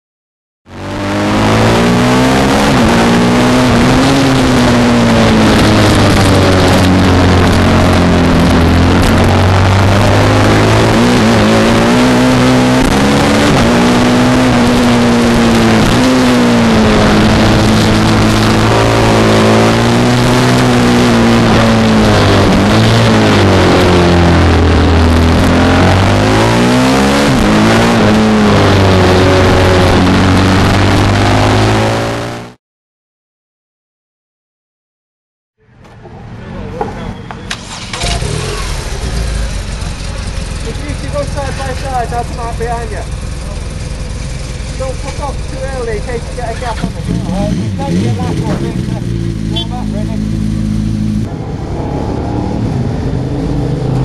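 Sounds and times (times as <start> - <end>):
racing motorcycle engine revving: 0.6 - 32.6, 37.5 - 54.0.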